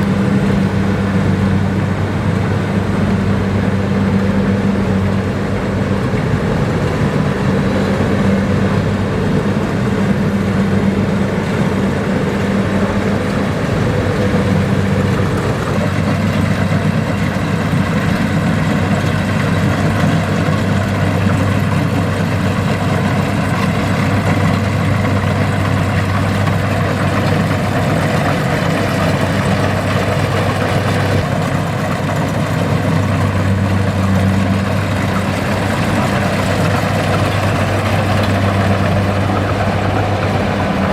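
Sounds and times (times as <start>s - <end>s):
diesel engine droning: 0.0s - 40.9s
harvester mechanical noise: 0.0s - 40.9s.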